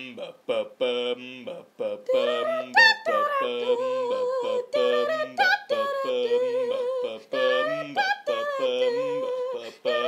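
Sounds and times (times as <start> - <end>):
person singing wordless tune: 0.0 - 10.0.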